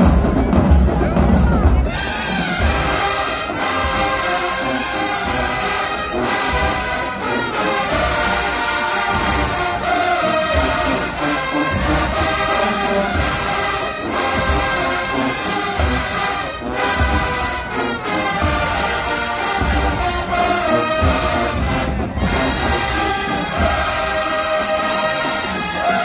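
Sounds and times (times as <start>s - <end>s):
steady bass drum beat: 0.0s - 24.3s
marching band brass: 0.0s - 26.0s.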